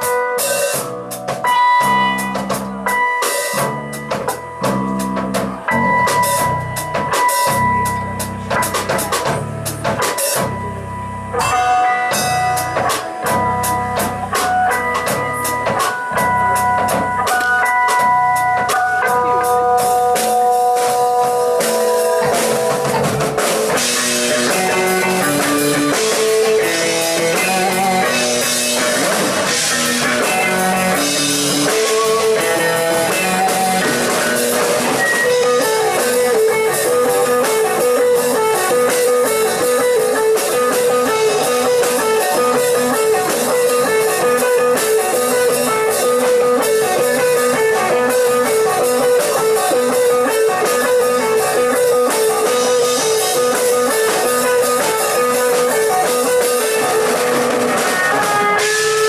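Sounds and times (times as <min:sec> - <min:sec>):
drum kit: 0:00.0 - 0:59.0
electric guitar: 0:00.0 - 0:59.0
electric bass: 0:00.7 - 0:59.0.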